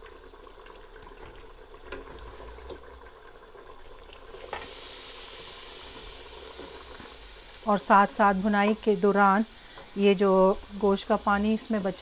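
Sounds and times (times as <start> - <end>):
meat sizzling in hot pot: 0.0 - 12.0.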